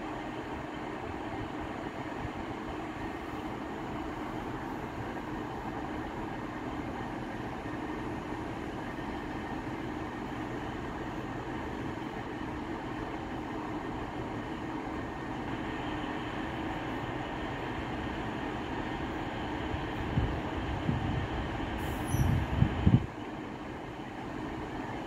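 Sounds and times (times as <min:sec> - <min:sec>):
train diesel engines humming: 0:00.0 - 0:25.0.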